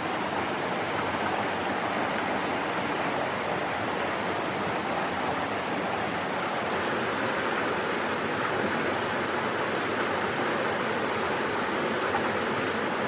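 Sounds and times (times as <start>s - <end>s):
creek running over stones: 0.0s - 13.0s.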